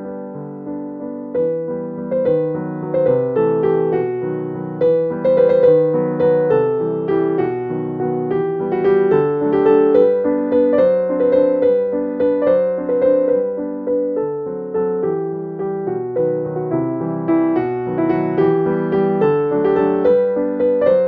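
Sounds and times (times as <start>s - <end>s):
piano melody: 0.0s - 21.0s.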